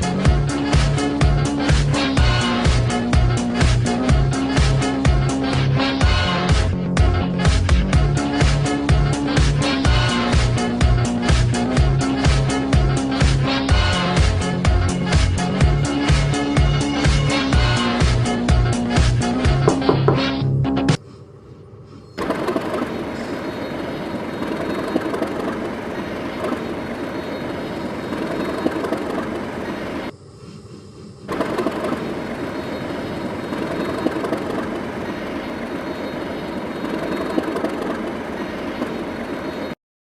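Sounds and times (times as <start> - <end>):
train wheels on track: 0.0 - 20.4, 21.0 - 39.8.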